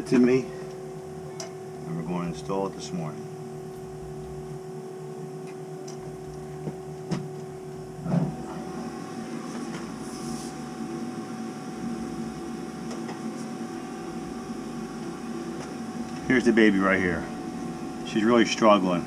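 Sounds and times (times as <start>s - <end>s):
circulator pump whining: 0.0s - 19.0s.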